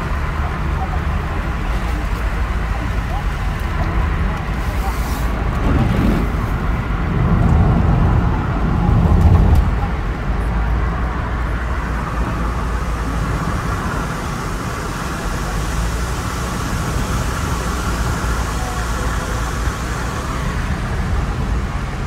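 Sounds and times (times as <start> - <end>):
car road noise on wet road: 0.0 - 22.0.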